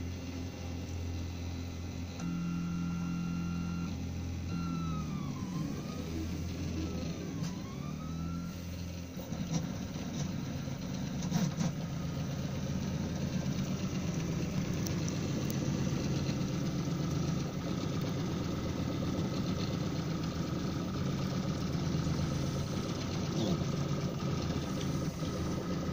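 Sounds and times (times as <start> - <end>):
stepper motors buzzing: 2.2 - 18.5, 19.2 - 25.9.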